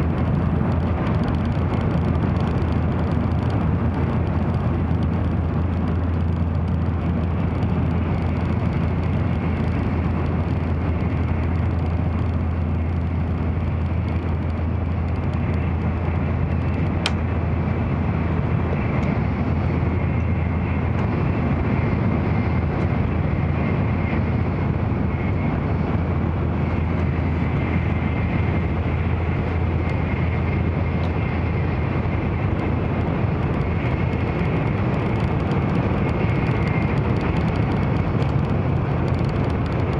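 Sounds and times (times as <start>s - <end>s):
train cabin rumble: 0.0s - 39.9s.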